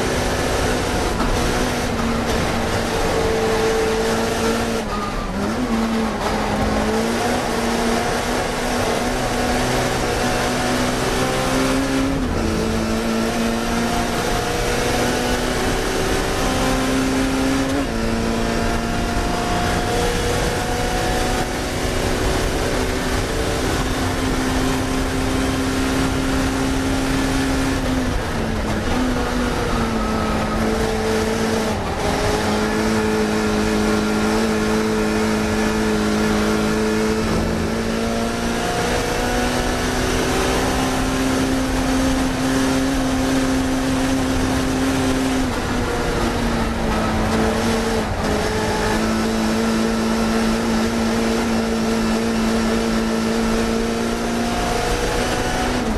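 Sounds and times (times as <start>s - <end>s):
racing car engine: 0.0s - 55.9s.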